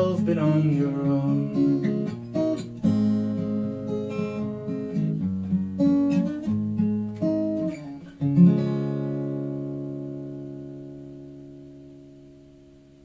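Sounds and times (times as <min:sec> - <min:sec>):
acoustic guitar plucking and strumming: 0:00.0 - 0:13.0.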